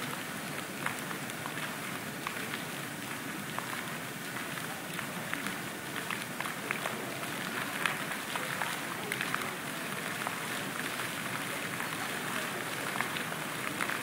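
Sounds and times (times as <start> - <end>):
water jets splashing: 0.0 - 14.0.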